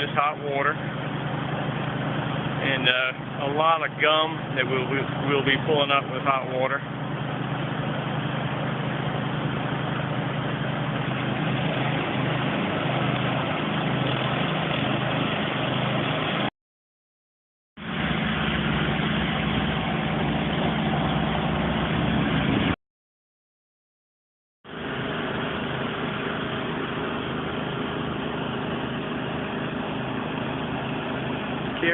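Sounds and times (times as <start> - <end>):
pressure washer engine drone: 0.0 - 16.5, 17.8 - 22.8, 24.6 - 31.9.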